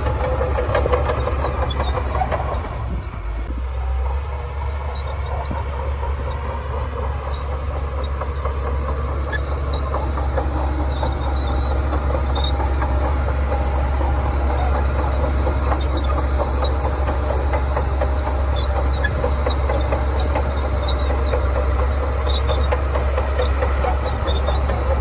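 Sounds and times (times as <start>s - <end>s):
steel tracks clattering: 0.0s - 3.3s, 4.5s - 25.0s
bulldozer diesel engine droning: 0.0s - 25.0s.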